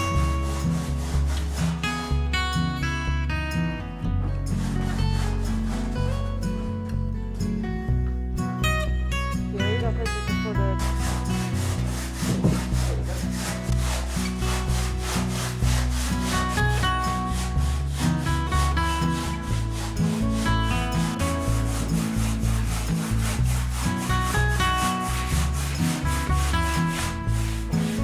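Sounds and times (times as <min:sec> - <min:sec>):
handsaw rasping through stone: 0:00.0 - 0:03.0, 0:04.4 - 0:06.8, 0:10.3 - 0:28.0.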